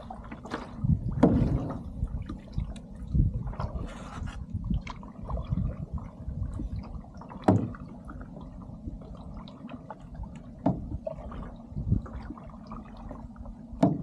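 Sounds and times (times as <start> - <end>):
low rumble: 0.0 - 14.0
paddle strokes splashing: 0.0 - 14.0
water sloshing against hull: 0.0 - 14.0.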